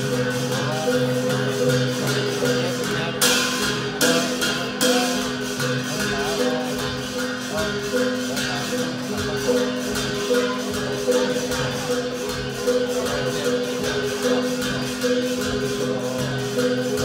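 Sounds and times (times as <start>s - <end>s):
traditional dance music: 0.0s - 17.0s.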